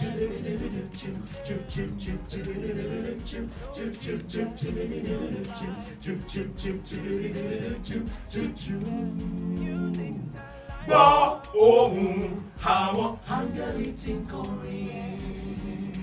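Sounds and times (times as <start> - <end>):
male a cappella harmonies: 0.0 - 16.0
mouth percussion beat: 0.0 - 16.0.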